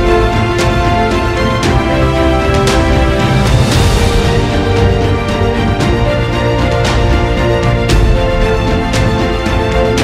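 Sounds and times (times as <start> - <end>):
background music chords and bass: 0.0 - 10.0.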